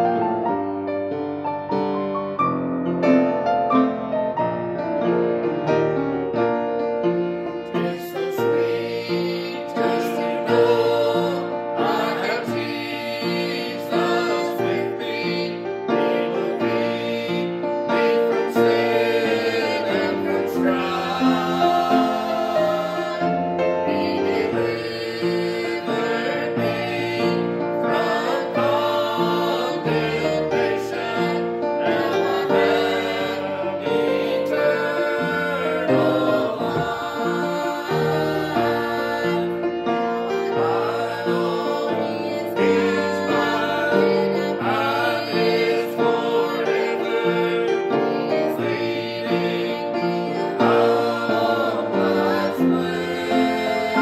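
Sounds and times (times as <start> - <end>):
gospel piano: 0.0 - 54.0
people singing: 7.2 - 54.0.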